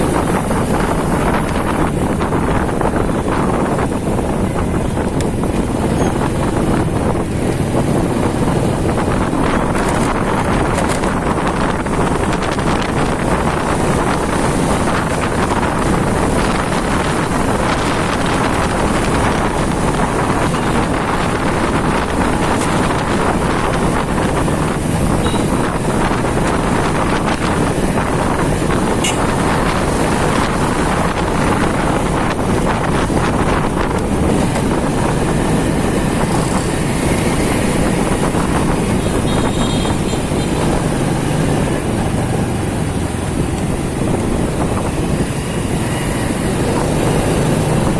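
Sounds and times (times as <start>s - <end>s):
motorcycle engine: 0.0s - 47.9s
street traffic: 0.0s - 47.9s
wind noise on microphone: 0.0s - 47.9s.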